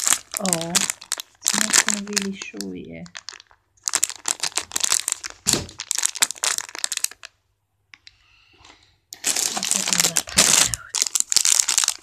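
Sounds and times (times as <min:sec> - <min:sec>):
plastic packet crinkling: 0:00.0 - 0:07.4, 0:09.2 - 0:12.0.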